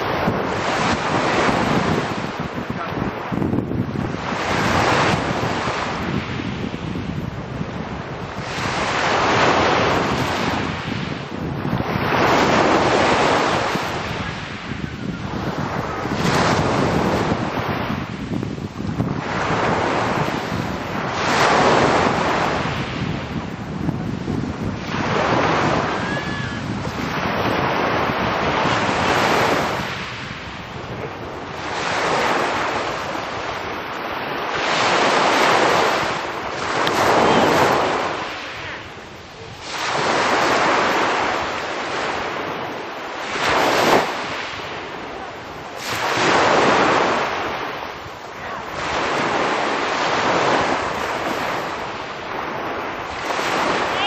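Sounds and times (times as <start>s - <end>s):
waves washing up a pebble beach: 0.0s - 54.0s
wind buffeting microphone: 0.0s - 54.0s.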